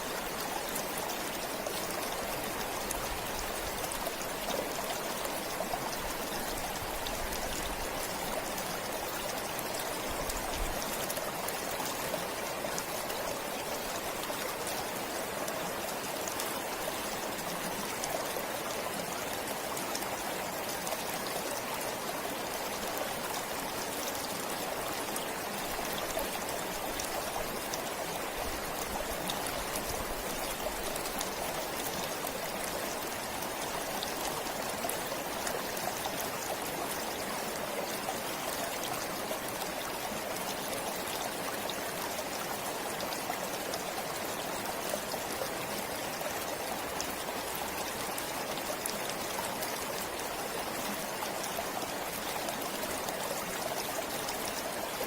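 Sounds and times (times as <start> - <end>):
forest stream flowing: 0.0 - 55.0.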